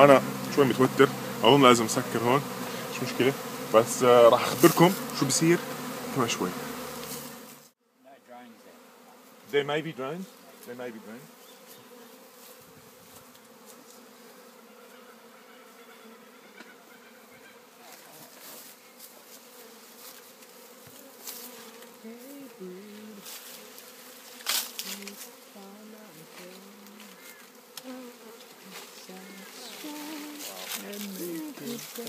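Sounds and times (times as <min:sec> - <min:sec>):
bee swarm buzzing: 0:00.0 - 0:32.0.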